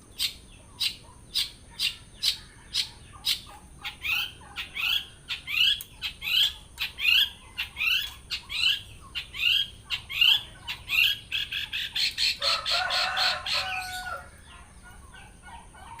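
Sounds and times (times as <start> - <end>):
harsh bird chatter: 0.0 - 16.0.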